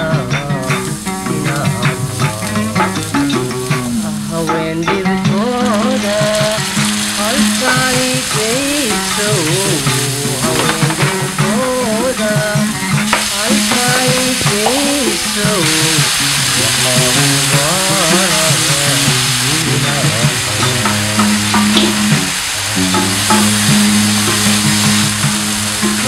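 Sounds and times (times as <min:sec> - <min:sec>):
background song: 0:00.0 - 0:26.0
food sizzling in a frying pan: 0:00.0 - 0:26.0.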